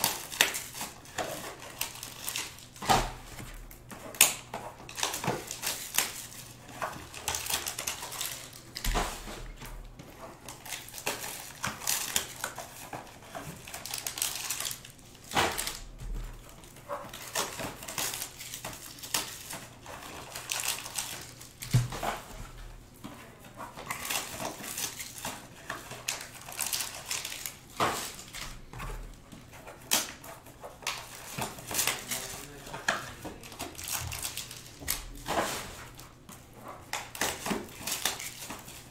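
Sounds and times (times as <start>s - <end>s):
foil and plastic wrap crinkling: 0.0s - 38.9s.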